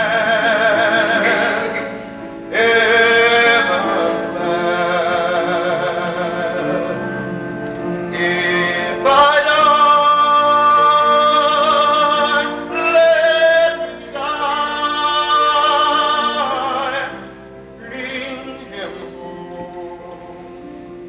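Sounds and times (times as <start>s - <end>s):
soft musical accompaniment: 0.0s - 21.0s.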